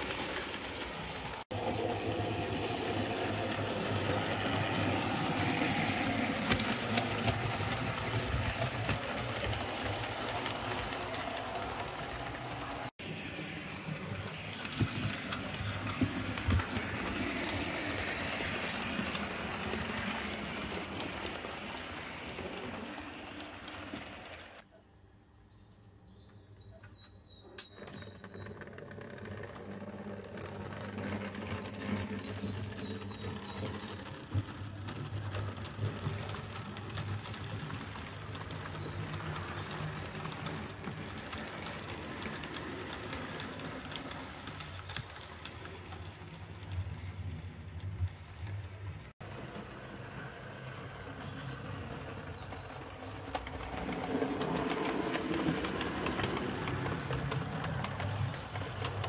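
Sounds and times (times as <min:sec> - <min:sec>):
model train wheels rumbling on track: 0:00.0 - 0:24.6, 0:27.6 - 0:59.0.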